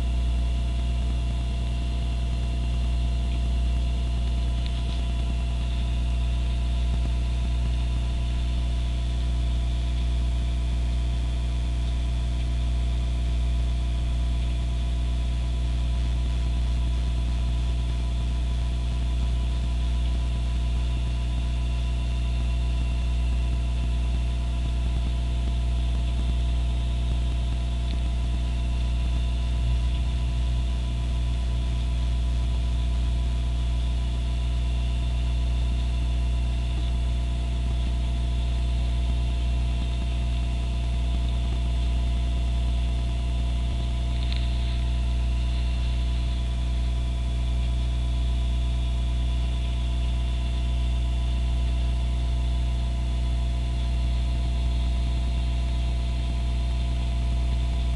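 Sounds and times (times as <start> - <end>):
electrical hum: 0.0 - 57.9.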